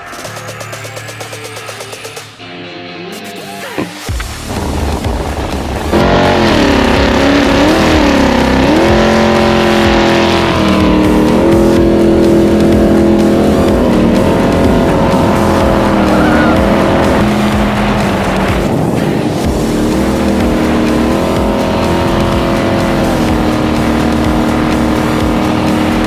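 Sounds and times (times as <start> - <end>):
engine running hard: 3.8 - 26.0.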